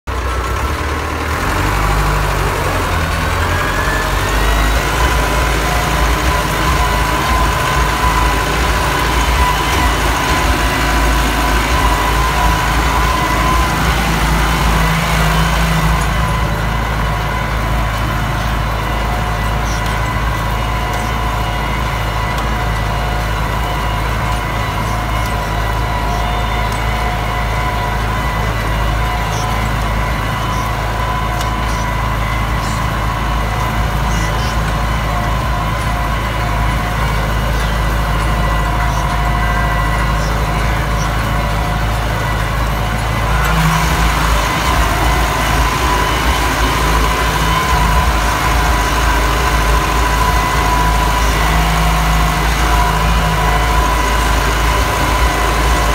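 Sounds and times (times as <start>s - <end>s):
high whine: 0.0s - 55.9s
tractor diesel engine drone: 0.0s - 55.9s.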